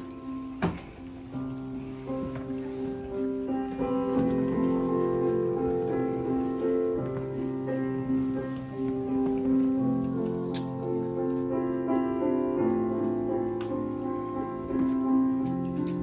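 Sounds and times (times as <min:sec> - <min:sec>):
slow keyboard music: 0:00.0 - 0:16.0.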